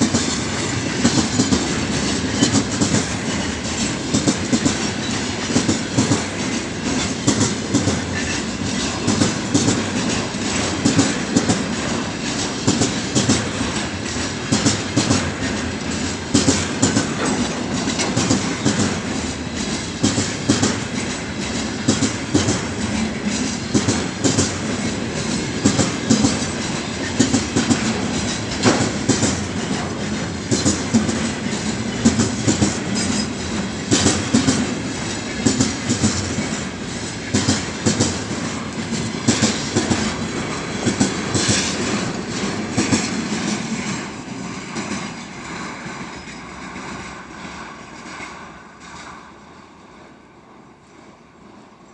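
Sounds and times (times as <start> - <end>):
train wheels clattering over rail joints: 0.0 - 49.5.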